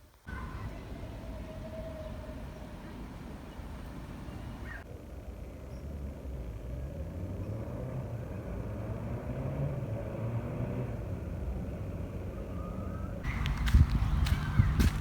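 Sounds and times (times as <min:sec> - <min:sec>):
vehicle rumble: 0:00.3 - 0:15.0.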